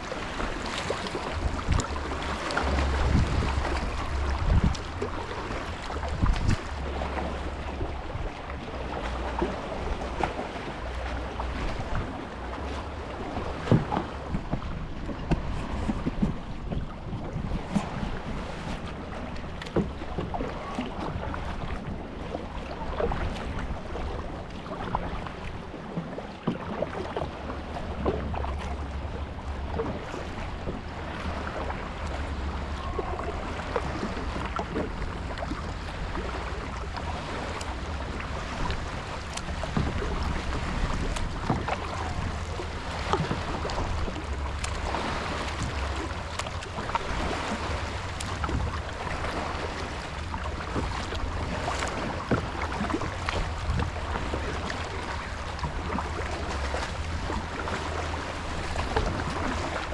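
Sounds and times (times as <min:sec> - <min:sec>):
paddle splashing water: 0:00.0 - 0:59.9
wind rumbling on microphone: 0:00.0 - 0:59.9.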